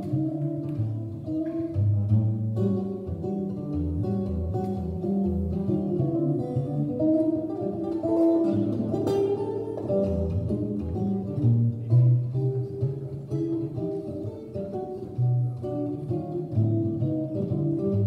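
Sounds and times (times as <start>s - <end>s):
solo guitar playing: 0.0s - 18.0s.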